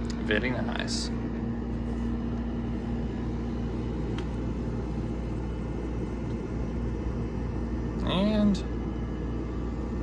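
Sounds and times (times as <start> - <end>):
compressor hum: 0.0 - 10.0
window air conditioner running: 0.0 - 10.0.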